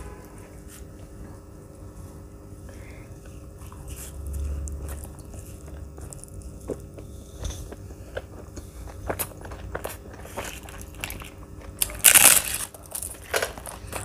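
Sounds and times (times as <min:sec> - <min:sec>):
person chewing food: 0:02.0 - 0:14.0.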